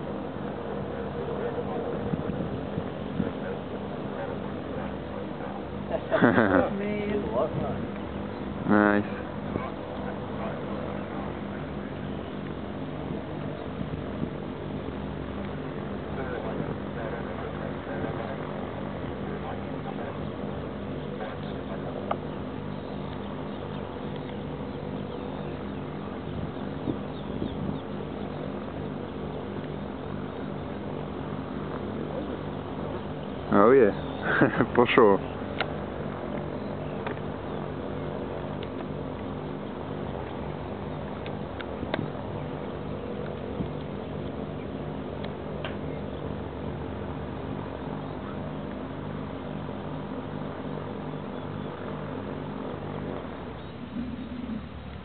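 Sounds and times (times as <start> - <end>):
distant propeller aircraft drone: 0.0 - 55.0.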